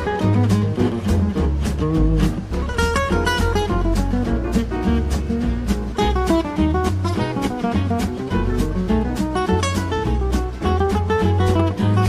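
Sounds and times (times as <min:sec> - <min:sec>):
bass line: 0:00.0 - 0:12.0
plucked guitar: 0:00.0 - 0:12.0
steady beat: 0:00.0 - 0:12.0.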